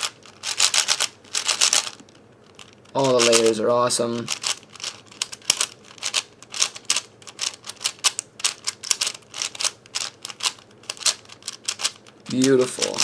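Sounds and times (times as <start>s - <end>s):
puzzle cube clacking: 0.0s - 13.0s.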